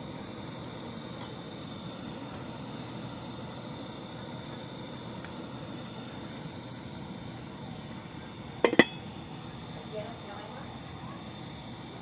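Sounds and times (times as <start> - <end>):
gas flame hissing: 0.0 - 12.0.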